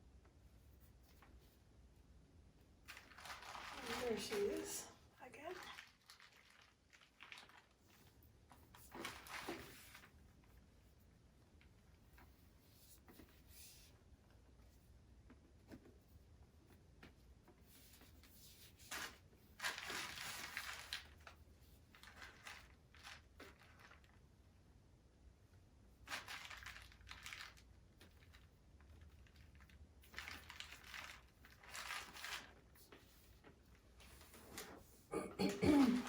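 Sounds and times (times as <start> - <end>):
faint rustling and crinkling: 0.0 - 36.0.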